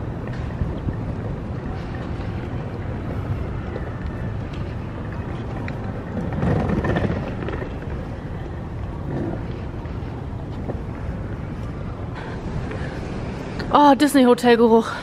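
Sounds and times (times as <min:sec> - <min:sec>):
wind buffeting microphone: 0:00.0 - 0:13.8
outdoor rumble: 0:00.0 - 0:14.0.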